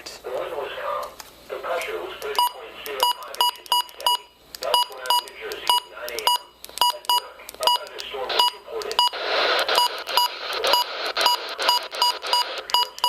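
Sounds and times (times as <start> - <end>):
radio static hiss: 0.0 - 6.2, 6.9 - 13.0.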